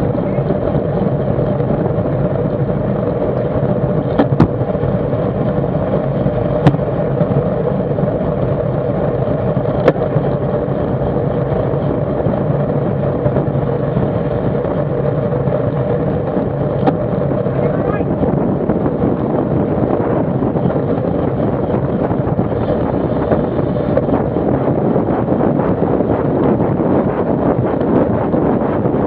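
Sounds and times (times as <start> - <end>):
road noise: 0.0 - 29.0
wind rush on microphone: 0.0 - 29.0.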